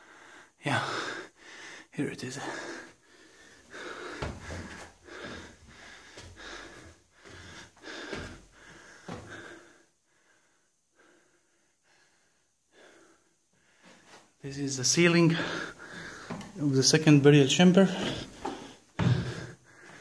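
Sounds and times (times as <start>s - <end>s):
person breathing heavily: 0.0s - 14.3s, 15.1s - 16.6s, 17.8s - 20.0s.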